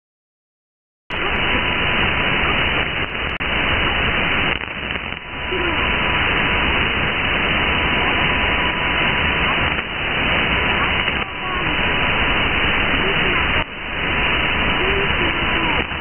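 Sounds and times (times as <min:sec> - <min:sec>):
radio static hiss: 0:01.1 - 0:16.0.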